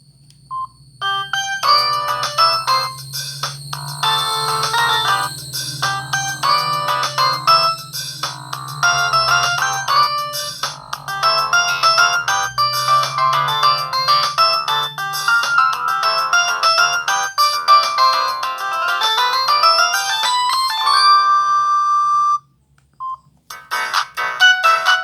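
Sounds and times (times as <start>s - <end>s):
synthesized phone ringtone melody: 1.0s - 22.4s, 23.5s - 25.0s.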